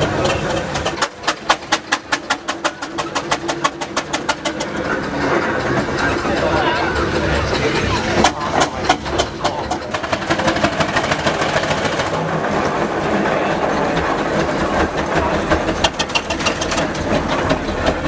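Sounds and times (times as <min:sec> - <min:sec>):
steam traction engine clattering: 0:00.0 - 0:18.0.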